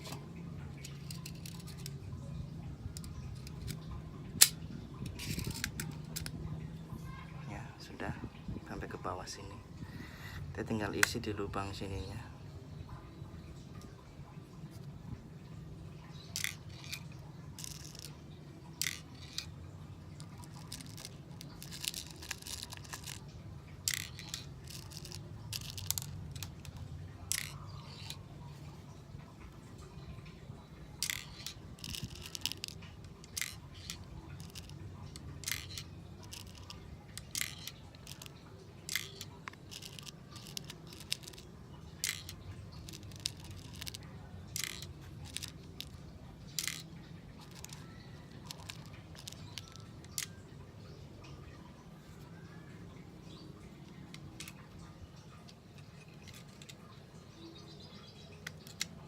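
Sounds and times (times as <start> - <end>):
small metallic clicks: 0.0 - 7.3, 16.0 - 51.6, 52.3 - 59.0.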